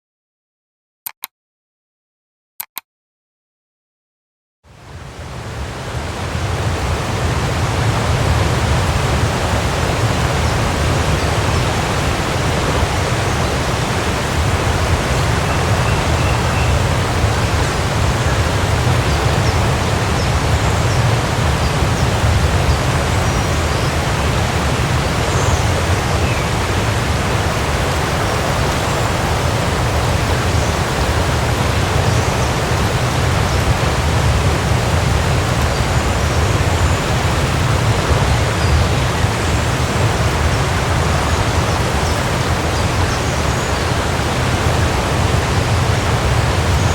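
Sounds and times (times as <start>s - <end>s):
waterfall rushing: 4.8s - 46.9s.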